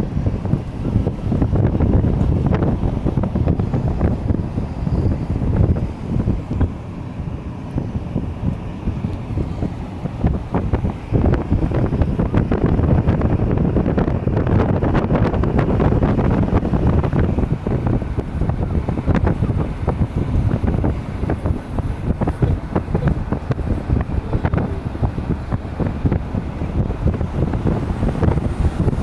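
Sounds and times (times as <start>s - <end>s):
car driving rumble: 0.0s - 29.0s
wind buffeting microphone: 0.0s - 29.0s.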